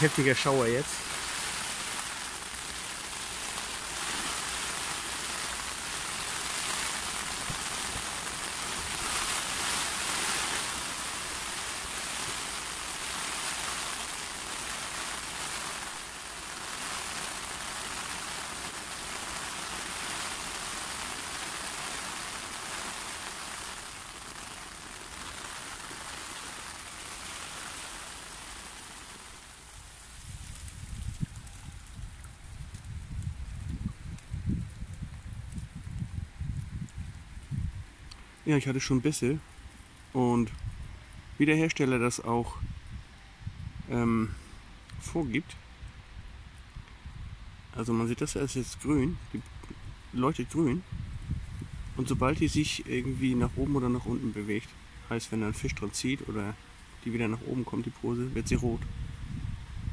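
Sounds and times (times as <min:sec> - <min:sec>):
heavy rain on water and grass: 0:00.0 - 0:59.9.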